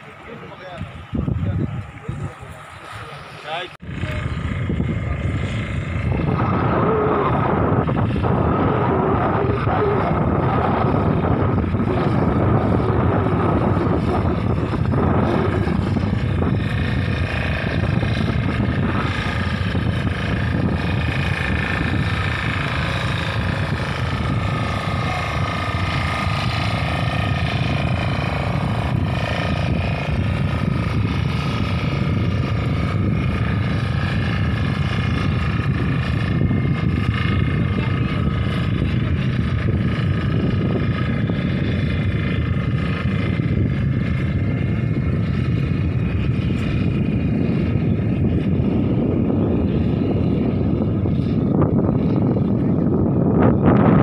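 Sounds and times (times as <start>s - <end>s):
small boat motor running: 0.0s - 54.0s
wind: 0.0s - 54.0s.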